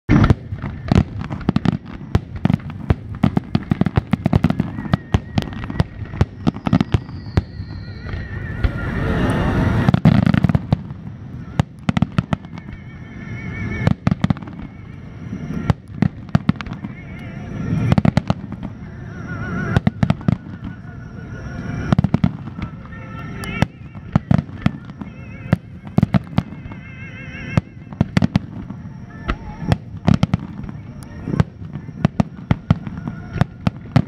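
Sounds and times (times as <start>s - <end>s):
firework shells bursting: 0.1s - 34.0s.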